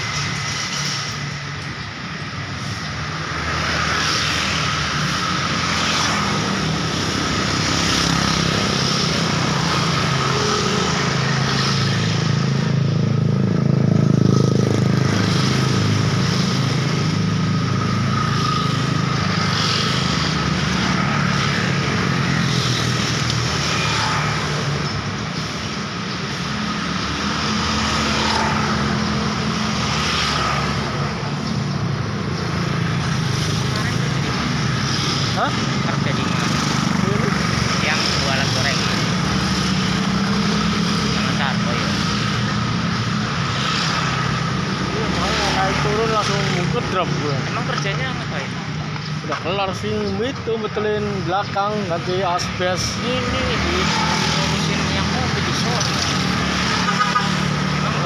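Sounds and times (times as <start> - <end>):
loud vehicle passing: 0.0 - 58.0
road traffic passing: 0.0 - 58.0.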